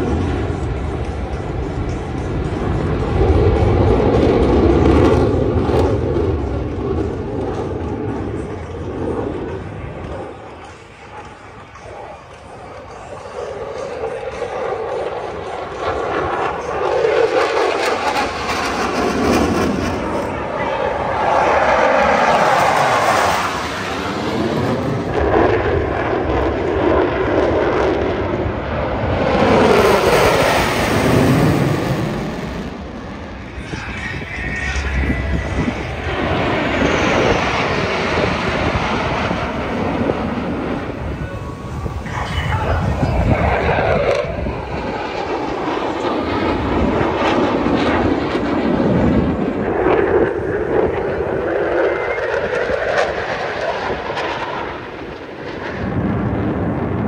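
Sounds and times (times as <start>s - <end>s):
jet engine roaring past: 0.0s - 57.0s.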